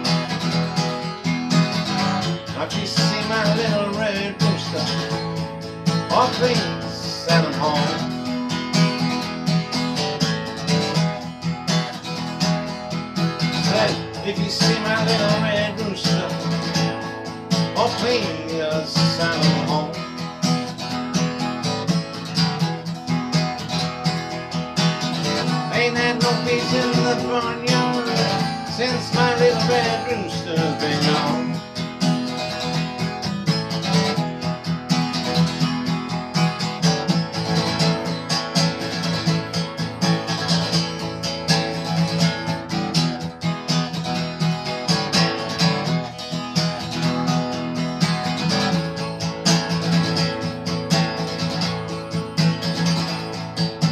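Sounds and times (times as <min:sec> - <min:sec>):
acoustic guitar slow blues: 0:00.0 - 0:53.9.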